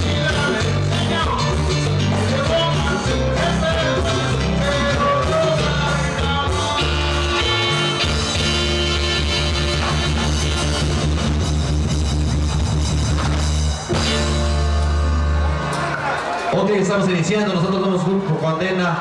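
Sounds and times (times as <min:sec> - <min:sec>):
live band amplified music: 0:00.0 - 0:19.0.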